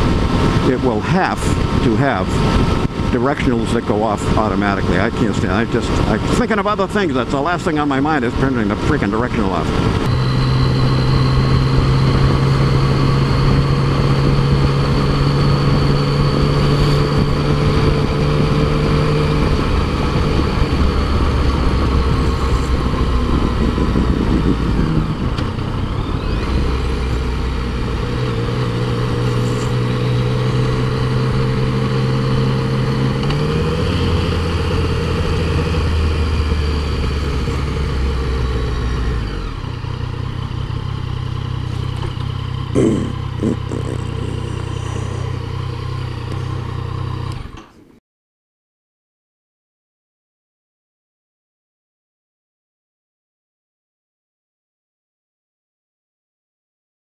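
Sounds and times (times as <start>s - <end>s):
motorcycle engine cruising: 0.0s - 47.8s.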